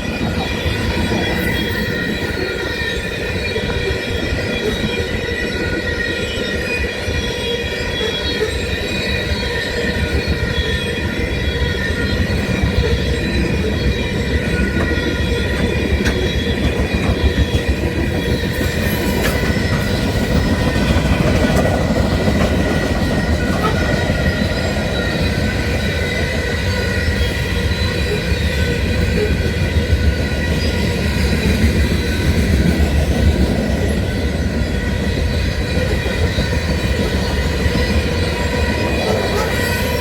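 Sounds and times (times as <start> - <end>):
high wheel squeal: 0.0 - 31.8, 33.9 - 40.0
freight train rumbling on rails: 0.0 - 40.0.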